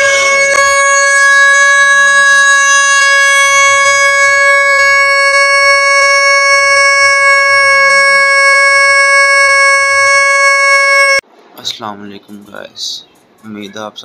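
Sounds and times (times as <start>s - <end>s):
plastic toy horn blown: 0.0s - 11.2s.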